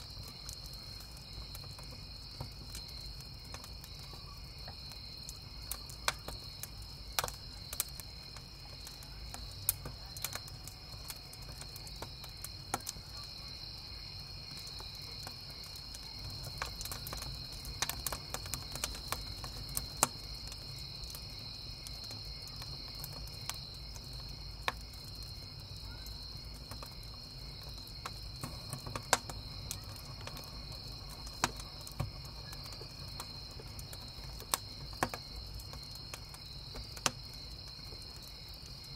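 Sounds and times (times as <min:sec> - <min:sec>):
campfire crackling and popping: 0:00.0 - 0:38.9
crickets chirping: 0:00.0 - 0:38.9.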